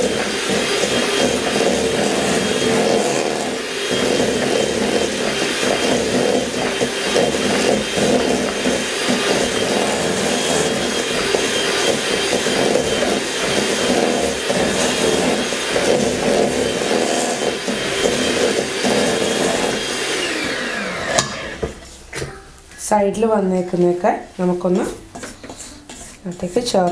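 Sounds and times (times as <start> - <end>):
electric hand mixer running: 0.0 - 21.8
beaters churning dough in bowl: 0.0 - 22.4, 24.6 - 26.9.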